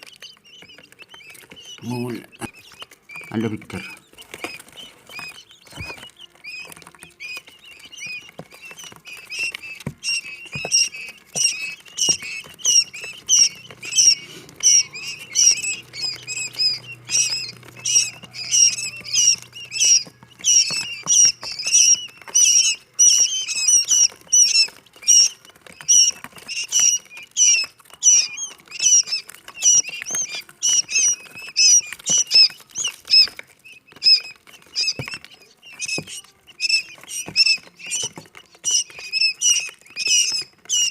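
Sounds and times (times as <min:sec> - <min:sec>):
quail chicks peeping: 0:00.0 - 0:40.9.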